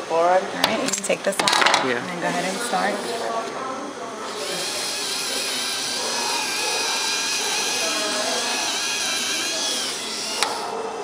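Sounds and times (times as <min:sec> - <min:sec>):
dental polisher high whine: 0:02.1 - 0:11.0.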